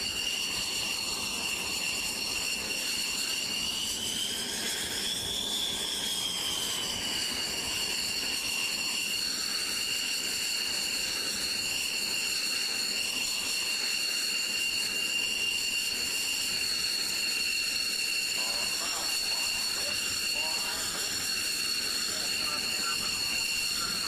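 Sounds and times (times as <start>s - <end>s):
jet engine idling whine: 0.0s - 24.0s.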